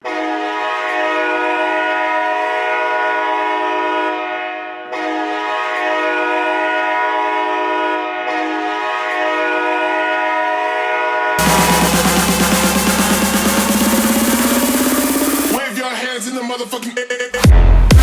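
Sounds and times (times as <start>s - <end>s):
deep air horn blasts: 0.0s - 15.6s.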